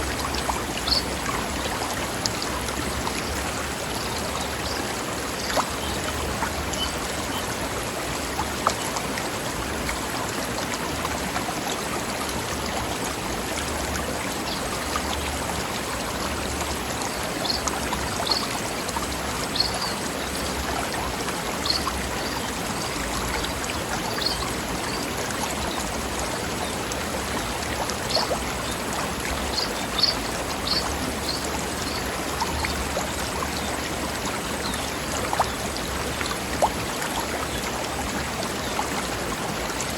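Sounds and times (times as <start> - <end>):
stream bubbling over rocks: 0.0 - 39.9.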